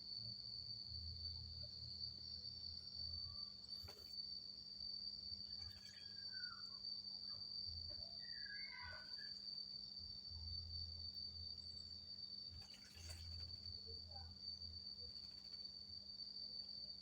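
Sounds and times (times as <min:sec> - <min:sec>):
cricket trilling: 0:00.0 - 0:17.0.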